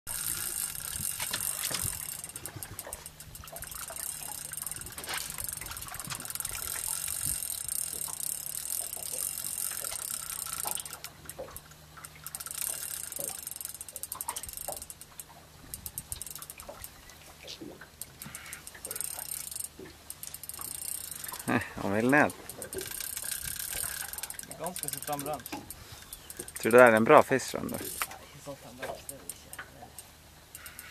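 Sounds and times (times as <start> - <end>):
fishing reel clicking: 0.1 - 30.9
steady low hum: 0.1 - 30.9.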